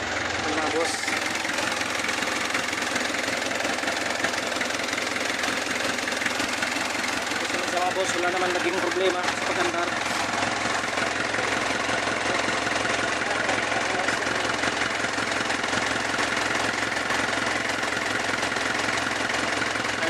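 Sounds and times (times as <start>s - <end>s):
diesel engine idling with clatter: 0.0s - 20.0s.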